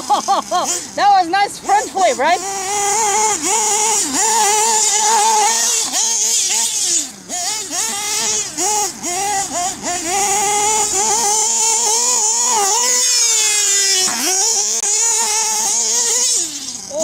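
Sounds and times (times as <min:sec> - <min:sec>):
small nitro engine revving: 0:00.0 - 0:17.0.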